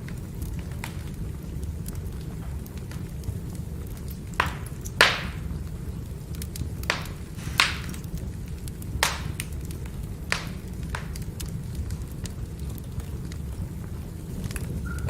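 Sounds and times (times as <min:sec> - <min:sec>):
firewood burning and popping: 0:00.0 - 0:15.0.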